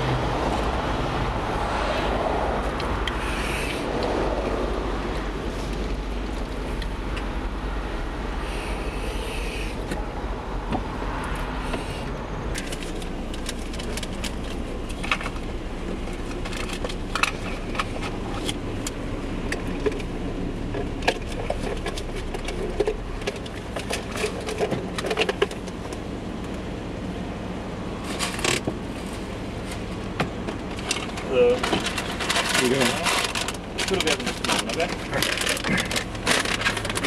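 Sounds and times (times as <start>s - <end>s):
car engine rumbling: 0.0s - 37.0s.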